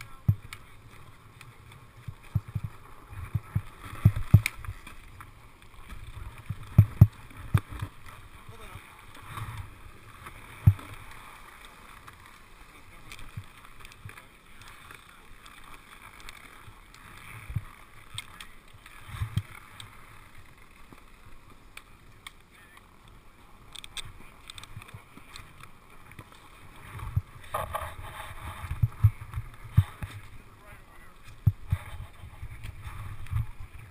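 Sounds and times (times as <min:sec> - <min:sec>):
steady background noise: 0:00.0 - 0:33.9.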